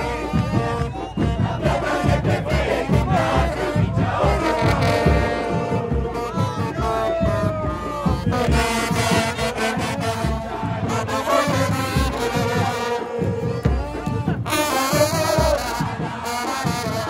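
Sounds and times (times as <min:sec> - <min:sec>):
bass drum beats: 0:00.0 - 0:17.0
trombones and trumpets playing: 0:02.4 - 0:17.0.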